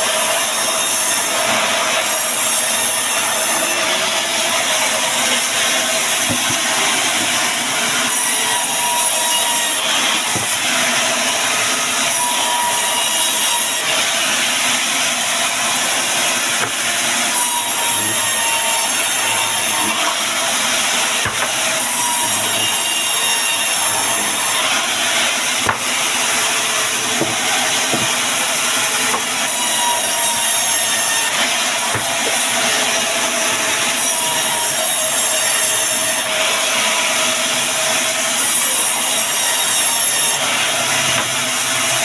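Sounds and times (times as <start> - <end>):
band saw cutting wood: 0.0 - 42.0.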